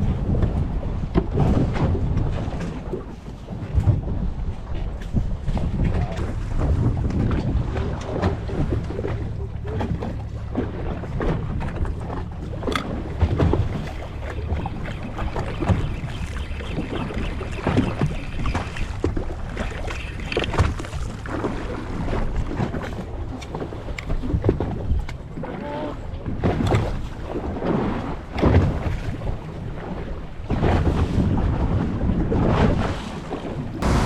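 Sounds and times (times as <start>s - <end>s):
water thumping against hull: 0.0s - 34.0s
wind buffeting microphone: 0.0s - 34.0s.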